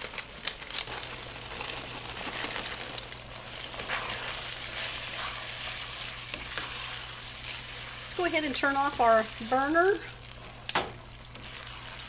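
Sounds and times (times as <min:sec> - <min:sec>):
food sizzling in a pan: 0:00.8 - 0:12.0
wooden spoon scraping a pan: 0:01.5 - 0:10.6, 0:11.3 - 0:12.0.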